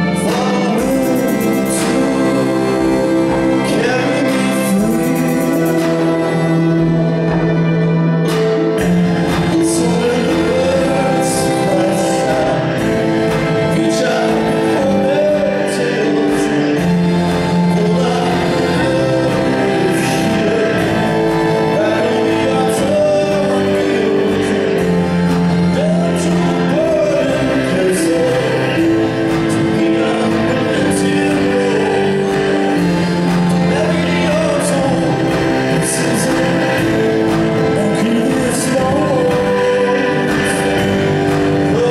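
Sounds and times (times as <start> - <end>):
held keyboard chords: 0.0 - 41.9
man singing: 0.0 - 41.9
violin gliding lines: 0.0 - 41.9.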